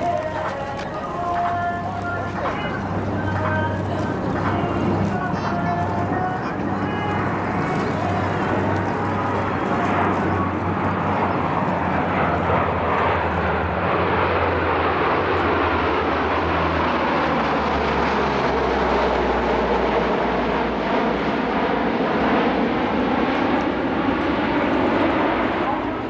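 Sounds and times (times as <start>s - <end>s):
turboprop aircraft droning overhead: 0.0s - 26.0s.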